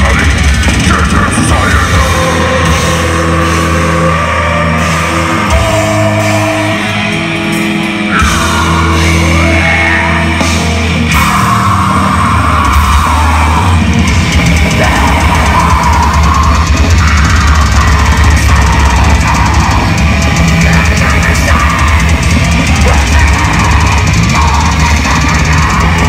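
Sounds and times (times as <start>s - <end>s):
screamed vocals: 0.0s - 7.2s, 8.0s - 26.0s
heavy metal band playing: 0.0s - 26.0s.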